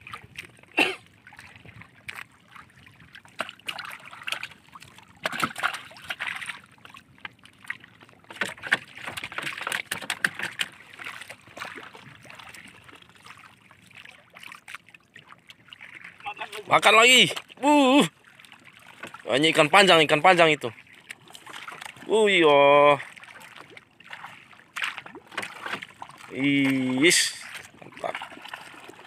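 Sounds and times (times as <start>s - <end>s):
water lapping against canoe hull: 0.0s - 29.0s.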